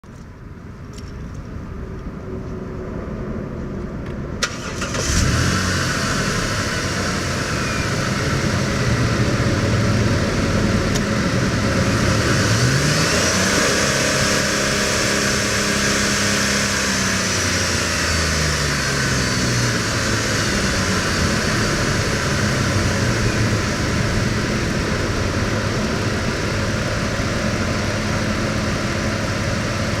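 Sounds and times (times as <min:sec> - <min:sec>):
pickup engine starting and idling: 0:04.3 - 0:30.0
engine revving: 0:04.4 - 0:30.0.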